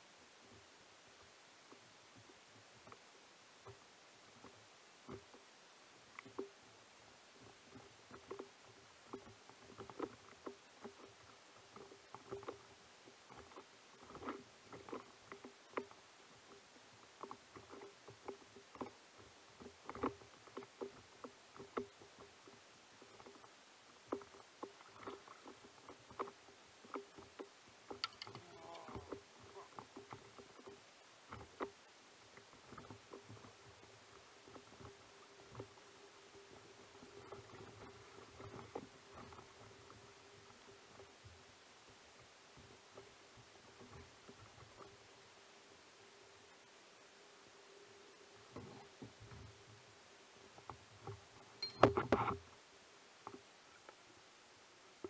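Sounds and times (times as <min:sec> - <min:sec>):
faint steady hum: 0:00.0 - 0:55.0
small waves lapping against a hull: 0:00.0 - 0:55.0.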